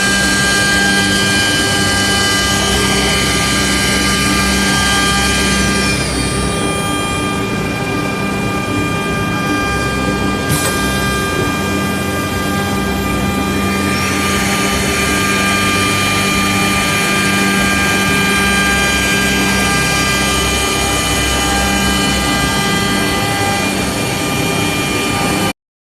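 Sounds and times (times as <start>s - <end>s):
machine hum: 0.0s - 25.5s
router spindles whining: 0.0s - 25.5s.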